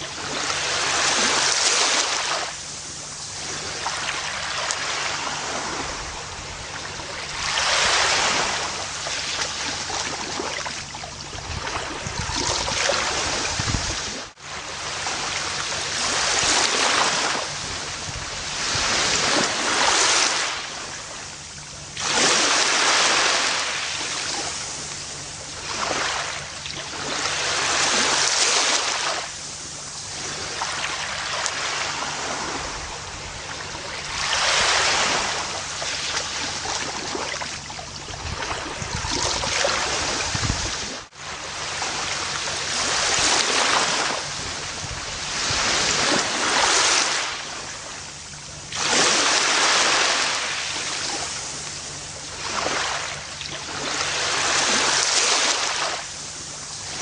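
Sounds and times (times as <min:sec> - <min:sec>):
ocean waves washing up a beach: 0:00.0 - 0:57.0.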